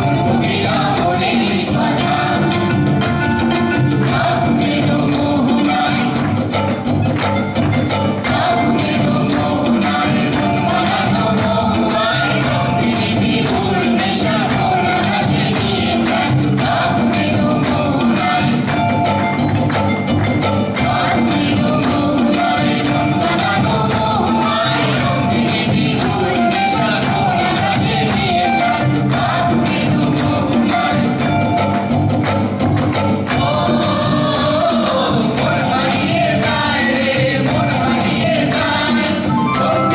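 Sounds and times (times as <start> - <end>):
folk singing with accompaniment: 0.0 - 39.9
rhythmic percussion: 0.0 - 39.9.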